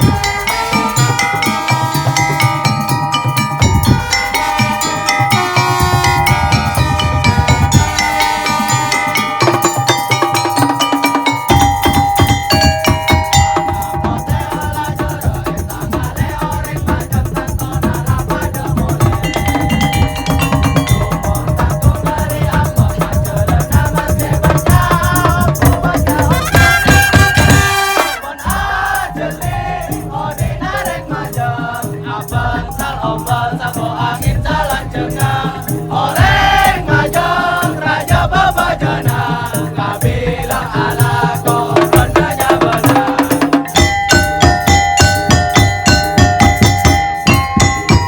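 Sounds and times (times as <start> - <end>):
low drums: 0.0 - 10.8, 11.5 - 48.0
percussion ensemble music: 0.0 - 48.0.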